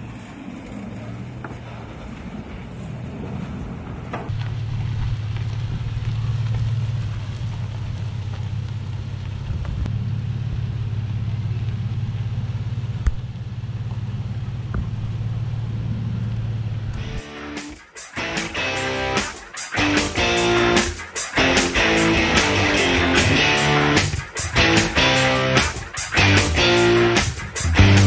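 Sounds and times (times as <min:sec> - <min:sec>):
vehicle engine rumbling: 0:00.0 - 0:19.2, 0:19.8 - 0:28.0.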